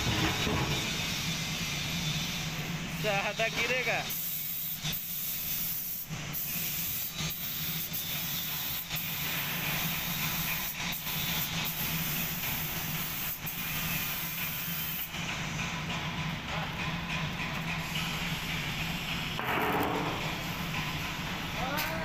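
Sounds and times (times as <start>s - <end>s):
paint spray gun hissing: 0.0s - 15.9s, 17.7s - 21.8s.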